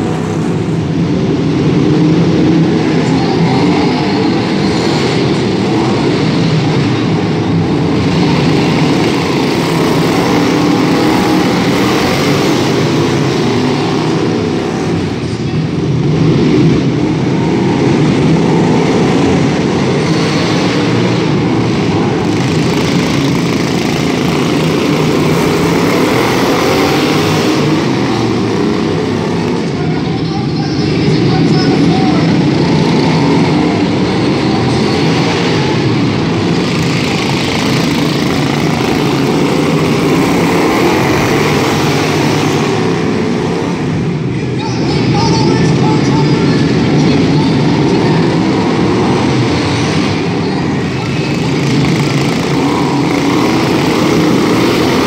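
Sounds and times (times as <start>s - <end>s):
lawn mower engines droning: 0.0s - 55.0s.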